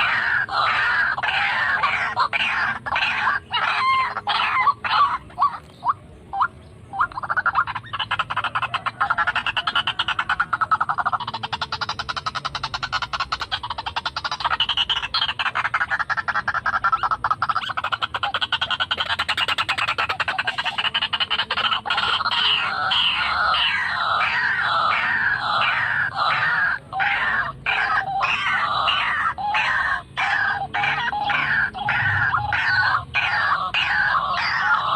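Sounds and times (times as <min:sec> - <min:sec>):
waterhen croaking calls: 0:00.0 - 0:34.9.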